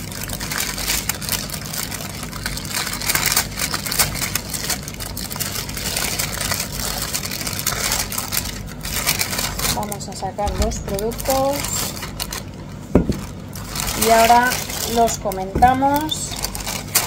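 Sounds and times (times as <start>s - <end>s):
paper bag rustling: 0.0s - 17.0s.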